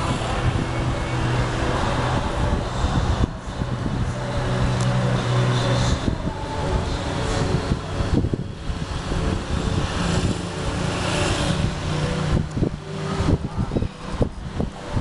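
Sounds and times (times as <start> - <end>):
low mechanical hum: 0.0 - 15.0
traffic noise: 0.0 - 15.0.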